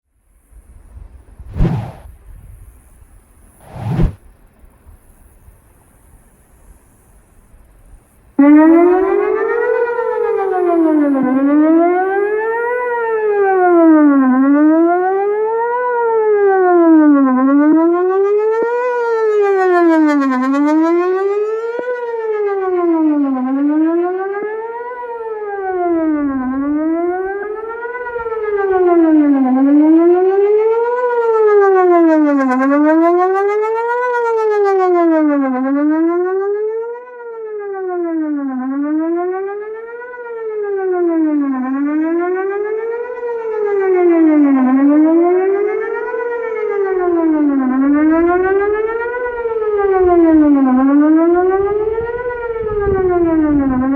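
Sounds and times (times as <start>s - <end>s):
warning siren sweeping up and down: 1.5s - 2.1s, 3.6s - 4.2s, 8.4s - 53.9s.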